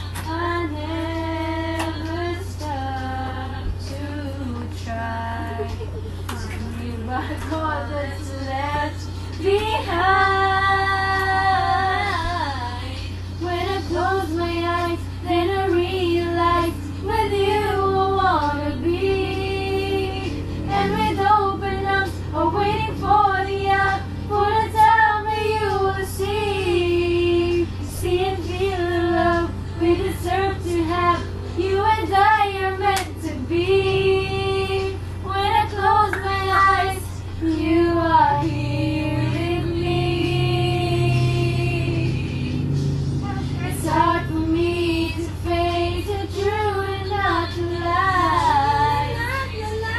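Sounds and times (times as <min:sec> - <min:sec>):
girl singing: 0:00.0 - 0:42.3, 0:43.2 - 0:49.9
steady low hum: 0:00.0 - 0:49.9.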